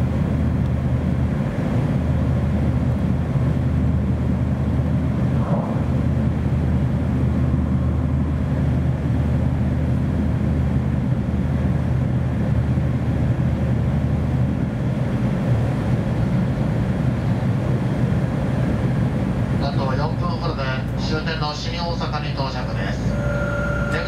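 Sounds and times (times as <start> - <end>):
low hum: 0.0 - 19.6, 22.6 - 24.0
train cabin rumble: 0.0 - 24.0.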